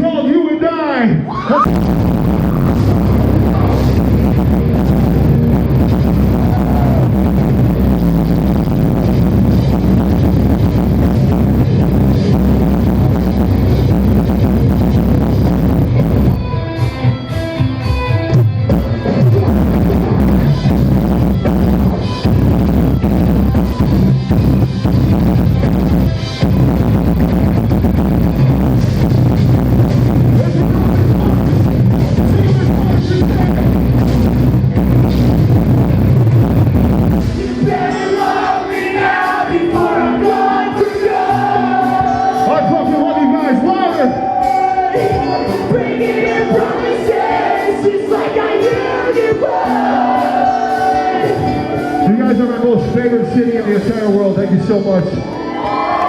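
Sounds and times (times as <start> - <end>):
live rock band playing: 1.5 - 56.0.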